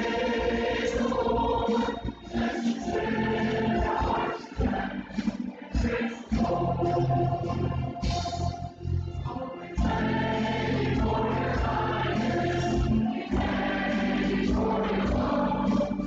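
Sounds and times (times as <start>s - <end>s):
group of voices singing: 0.0s - 8.4s, 9.2s - 16.0s
instrumental accompaniment: 0.0s - 16.0s.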